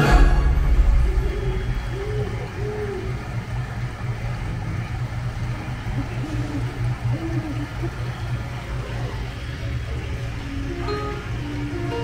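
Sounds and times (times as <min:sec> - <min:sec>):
ride vehicle rumbling: 0:00.0 - 0:12.0
soft gliding background music: 0:00.0 - 0:12.0.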